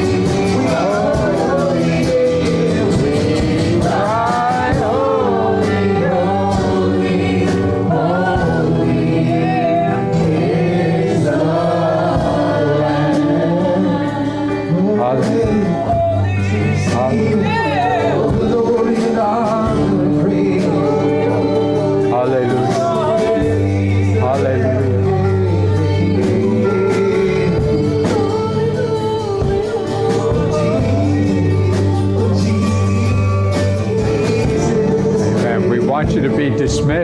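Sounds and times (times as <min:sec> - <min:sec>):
instrumental backing: 0:00.0 - 0:37.0
voices singing slow worship song: 0:00.0 - 0:37.0.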